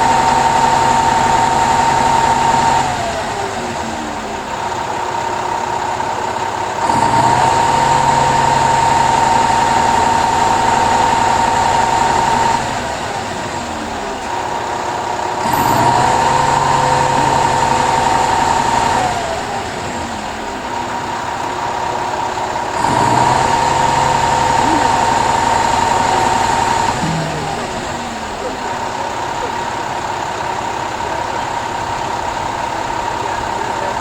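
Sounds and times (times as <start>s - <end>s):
steady engine whine: 0.0s - 34.0s
truck engine idling and revving: 0.0s - 34.0s.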